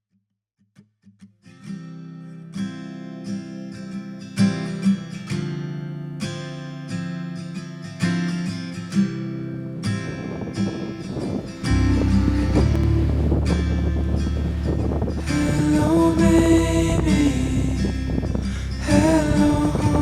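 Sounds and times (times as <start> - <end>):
acoustic guitar song: 0.7 - 20.0.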